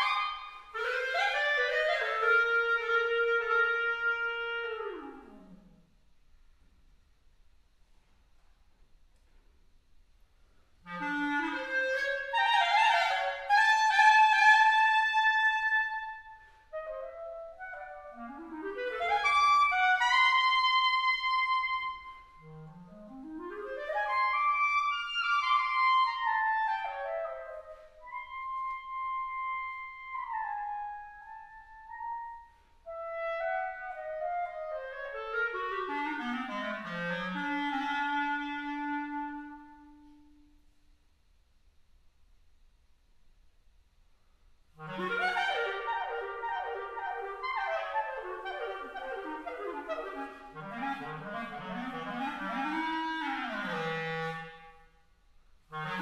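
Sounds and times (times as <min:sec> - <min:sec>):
solo clarinet playing: 0:00.0 - 0:05.8, 0:10.8 - 0:40.6, 0:44.8 - 0:55.0, 0:55.6 - 0:56.0.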